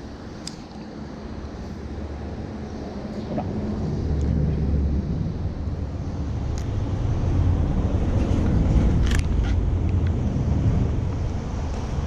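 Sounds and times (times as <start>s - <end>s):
wind buffeting microphone: 1.5s - 12.0s.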